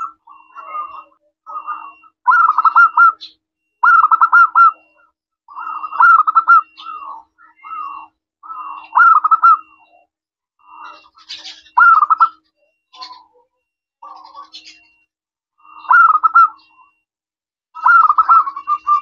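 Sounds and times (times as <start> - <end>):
dove cooing: 0.0 - 10.0, 10.6 - 13.4, 14.0 - 15.0, 15.6 - 17.0, 17.8 - 19.0.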